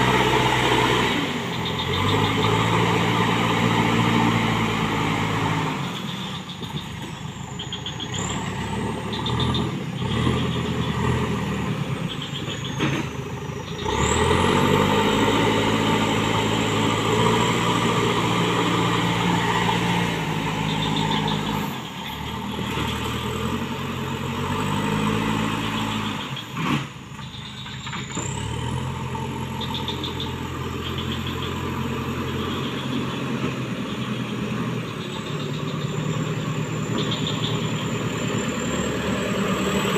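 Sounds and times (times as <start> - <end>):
diesel engine working under load: 0.0 - 39.9.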